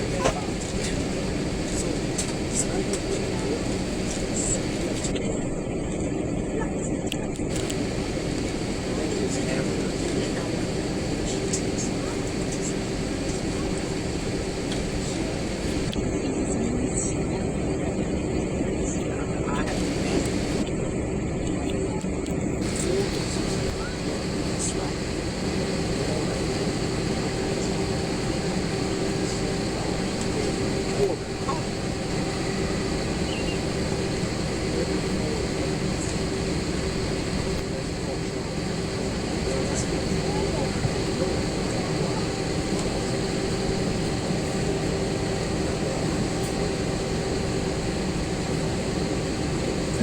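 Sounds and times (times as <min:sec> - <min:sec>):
air conditioning rush: 0:00.0 - 0:06.1, 0:07.4 - 0:21.2, 0:22.4 - 0:50.0
jet engines humming: 0:00.0 - 0:50.0.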